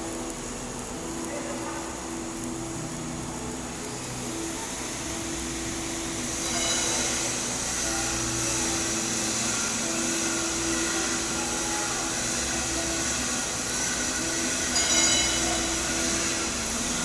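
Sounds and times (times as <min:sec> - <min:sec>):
welding arc hissing: 0:00.0 - 0:17.0.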